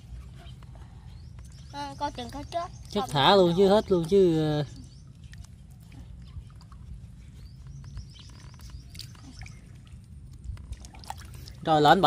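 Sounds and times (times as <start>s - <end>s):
water sloshing and dripping: 0.0s - 12.0s.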